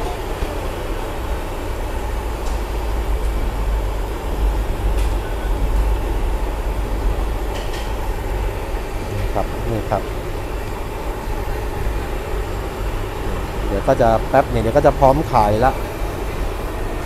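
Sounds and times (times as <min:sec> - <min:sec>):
gas burner roaring: 0:00.0 - 0:17.0.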